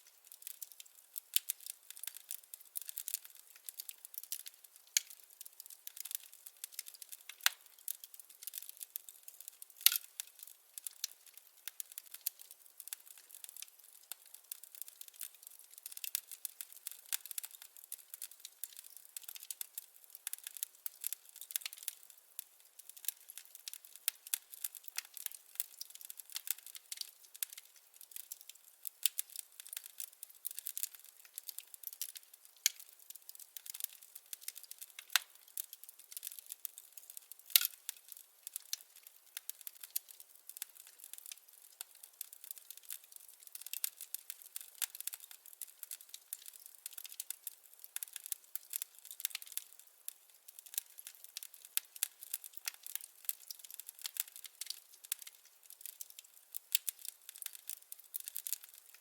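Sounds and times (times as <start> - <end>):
firewood crackling: 0.0 - 59.0.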